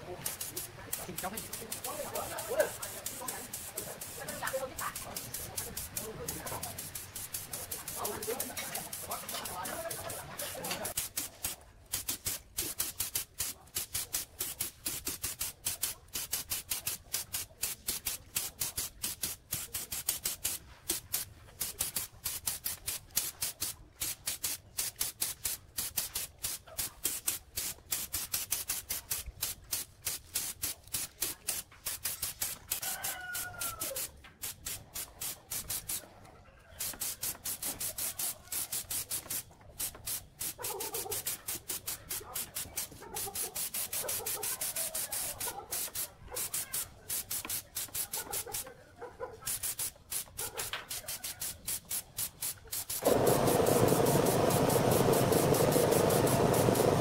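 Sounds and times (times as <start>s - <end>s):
paint spray gun hissing in pulses: 0.0s - 32.8s, 33.4s - 36.1s, 36.8s - 48.6s, 49.4s - 57.0s.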